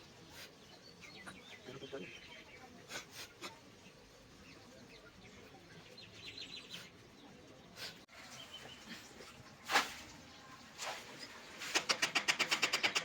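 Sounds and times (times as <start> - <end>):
faint birds chirping: 0.0 - 12.4.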